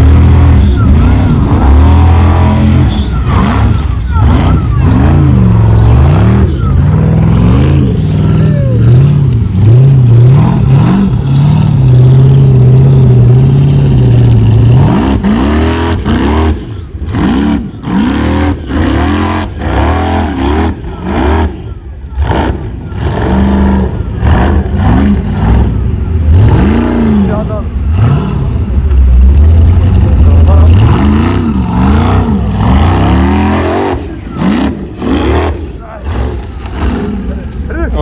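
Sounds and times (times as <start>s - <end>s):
buggy engine revving: 0.0s - 38.0s.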